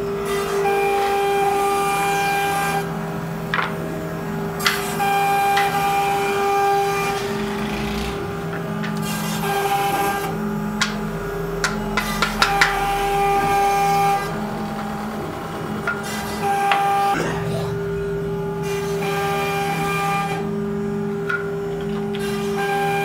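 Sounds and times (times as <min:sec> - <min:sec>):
cnc router whining: 0:00.0 - 0:23.0.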